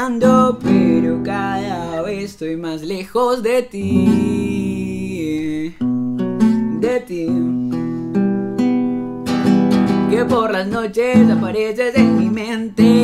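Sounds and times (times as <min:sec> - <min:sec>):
acoustic guitar strumming: 0:00.0 - 0:02.3, 0:03.8 - 0:13.0.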